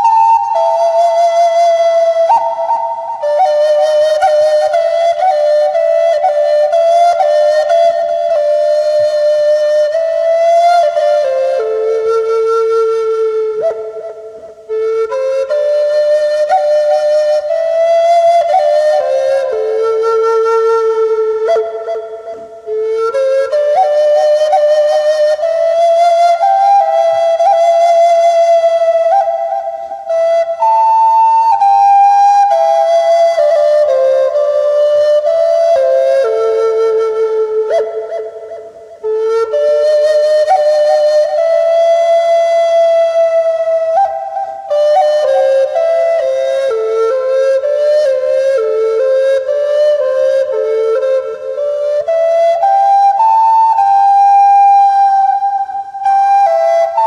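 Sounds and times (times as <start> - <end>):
flute playing slow melody: 0.0 - 57.0.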